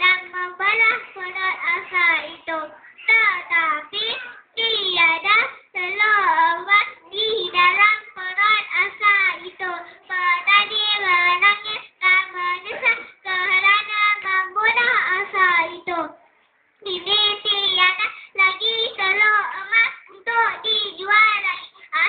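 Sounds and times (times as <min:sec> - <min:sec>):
girl singing into a microphone: 0:00.0 - 0:16.2, 0:16.8 - 0:22.0.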